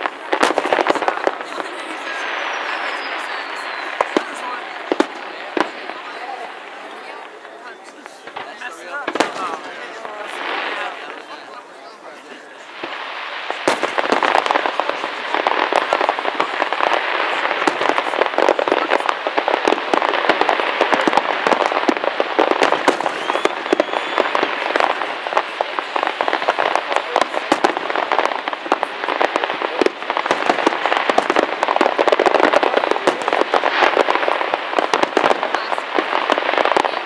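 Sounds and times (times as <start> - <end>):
fireworks shells bursting: 0.0 - 11.3, 12.6 - 37.0.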